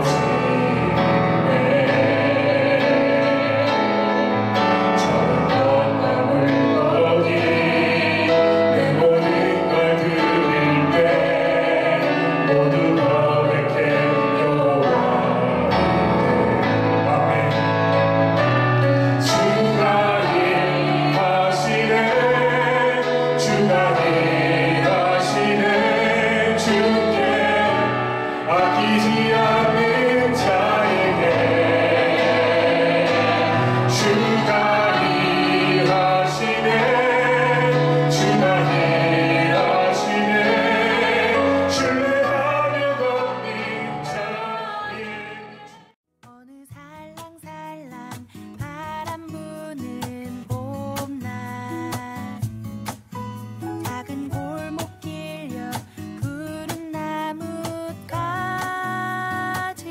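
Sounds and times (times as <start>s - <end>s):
woman and man singing: 0.0s - 4.3s, 4.9s - 17.8s, 19.1s - 45.9s, 46.5s - 52.4s, 53.8s - 59.9s
instrumental accompaniment: 0.0s - 59.9s.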